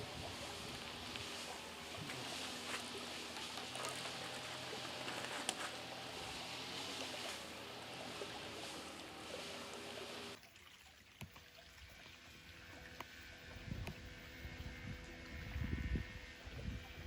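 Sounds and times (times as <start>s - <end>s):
creek water running and trickling: 0.0s - 17.0s.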